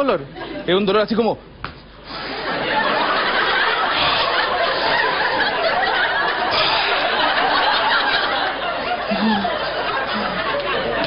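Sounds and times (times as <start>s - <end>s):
large audience laughing: 2.1s - 11.0s.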